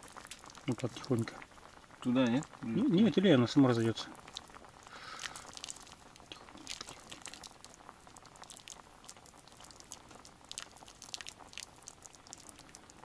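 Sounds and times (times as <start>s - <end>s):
pot simmering with crackles: 0.0s - 13.0s.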